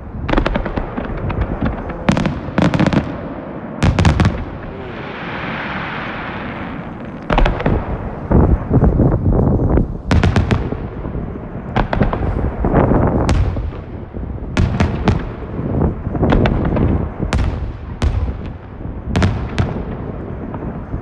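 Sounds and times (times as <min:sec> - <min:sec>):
firework sharp cracks: 0:00.0 - 0:09.1, 0:10.1 - 0:21.0
firework shells booming: 0:00.0 - 0:21.0.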